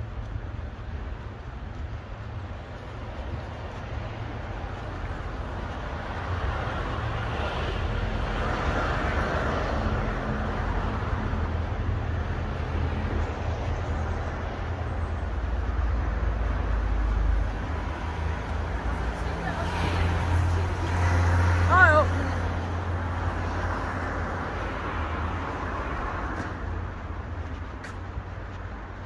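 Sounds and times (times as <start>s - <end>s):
low traffic rumble: 0.0s - 29.0s
passing vehicle tyre and engine noise: 0.0s - 29.0s.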